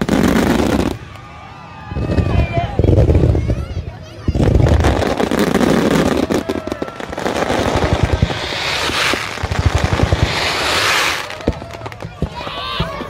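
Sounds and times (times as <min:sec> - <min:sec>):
fireworks loud bangs: 0:00.0 - 0:01.2, 0:02.0 - 0:13.0.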